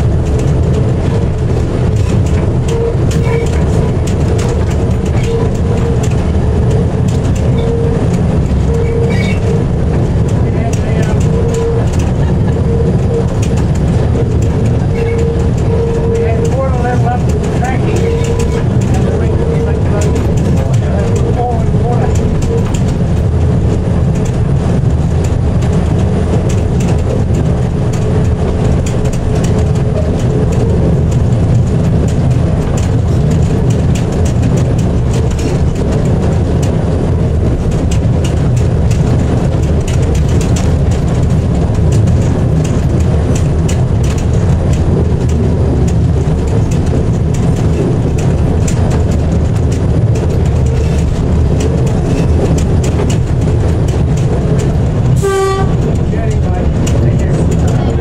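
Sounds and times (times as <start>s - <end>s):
locomotive engine rumble: 0.0s - 58.0s
wheels clicking over rails: 0.0s - 58.0s.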